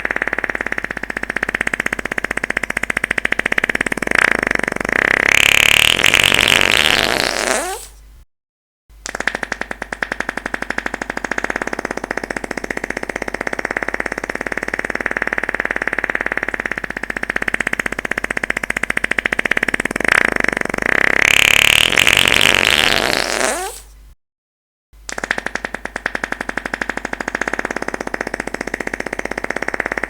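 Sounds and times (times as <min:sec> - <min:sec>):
fart with fluttering rattle: 0:00.0 - 0:08.0, 0:09.1 - 0:23.9, 0:25.1 - 0:30.0.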